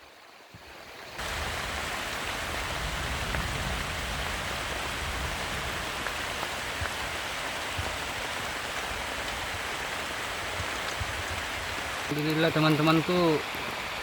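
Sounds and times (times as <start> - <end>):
heavy rain on a shelter: 0.0 - 14.0
single raindrops: 0.6 - 14.0.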